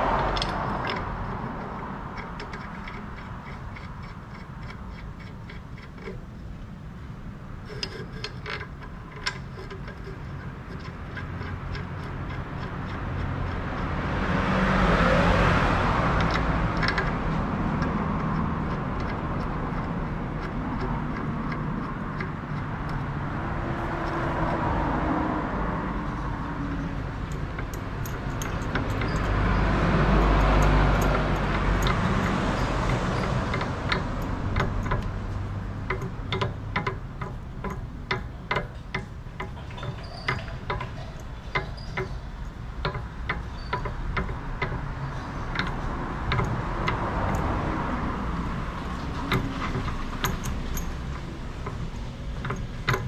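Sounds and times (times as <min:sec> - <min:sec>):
vehicle rumble: 0:00.0 - 0:53.0.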